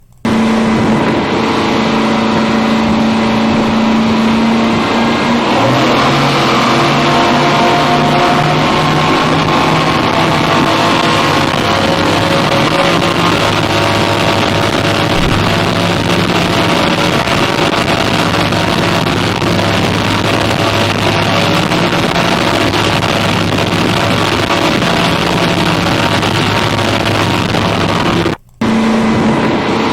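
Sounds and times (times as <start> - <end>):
outboard motors running: 0.0 - 29.9
water and wind noise: 0.3 - 29.9.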